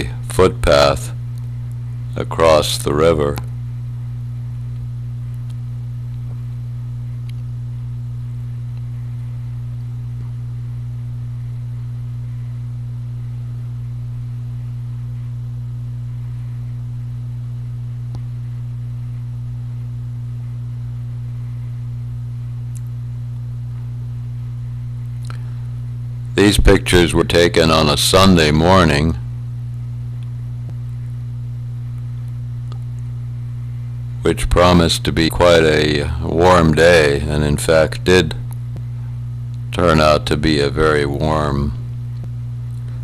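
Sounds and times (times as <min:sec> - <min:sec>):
low electrical hum: 0:00.0 - 0:43.0.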